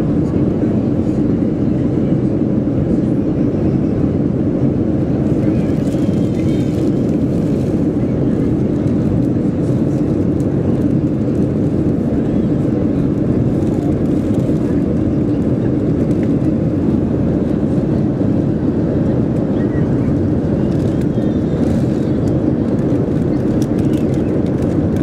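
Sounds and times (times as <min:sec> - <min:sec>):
airplane cabin engine roar: 0:00.0 - 0:25.0.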